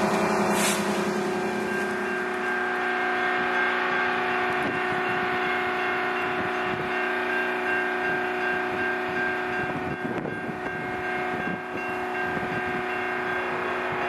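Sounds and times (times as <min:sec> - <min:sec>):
diesel locomotive drone: 0:00.0 - 0:14.0.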